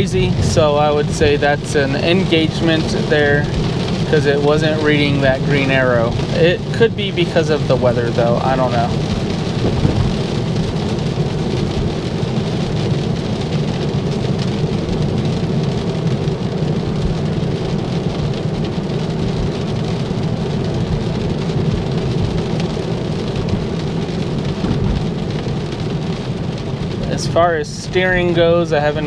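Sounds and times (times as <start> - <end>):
rain on a car: 0.0 - 29.0
tyres rumbling on wet road: 0.0 - 29.0.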